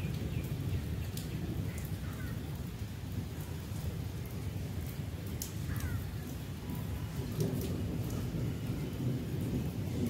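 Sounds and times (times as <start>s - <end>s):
steady rainfall: 0.0s - 10.0s.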